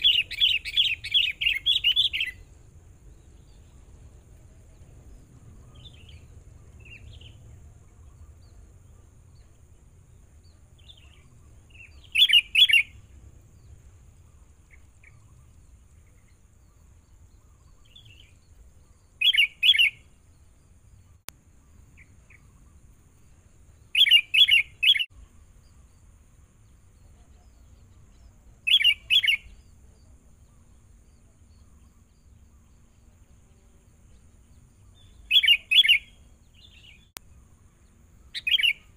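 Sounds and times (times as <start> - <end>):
faint bird chirps: 0.0 - 38.9.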